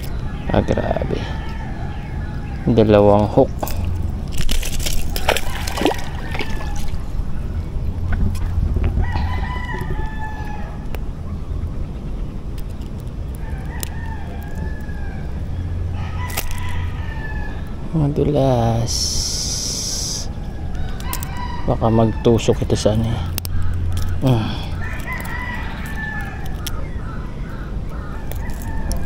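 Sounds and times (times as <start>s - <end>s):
roosters crowing: 0.0s - 2.8s, 4.0s - 7.4s, 8.8s - 11.1s, 13.1s - 29.0s.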